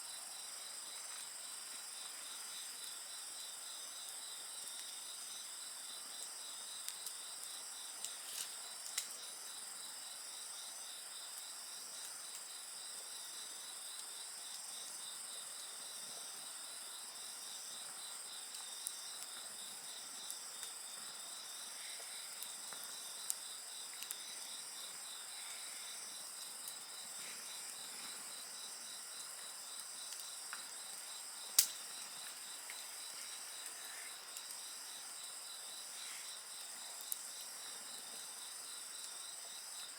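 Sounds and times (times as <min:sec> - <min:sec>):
crickets trilling: 0:00.0 - 0:39.9
campfire crackling: 0:00.1 - 0:15.5, 0:16.2 - 0:39.9.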